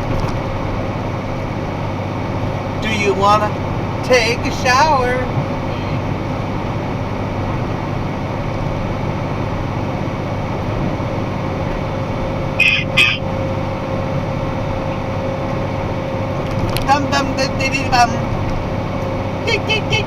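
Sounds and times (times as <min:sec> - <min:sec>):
road noise: 0:00.0 - 0:20.0
truck engine hum: 0:00.0 - 0:20.0.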